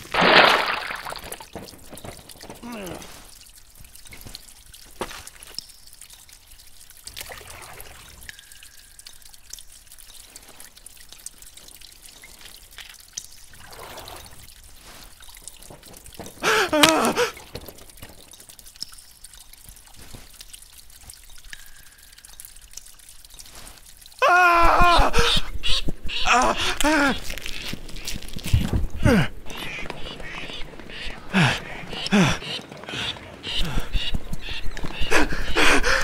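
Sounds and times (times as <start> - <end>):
water trickling and dripping: 0.0 - 36.0.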